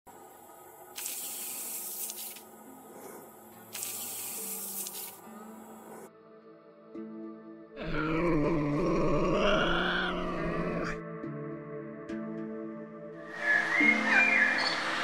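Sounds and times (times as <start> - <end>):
soft background music: 0.1 - 15.0.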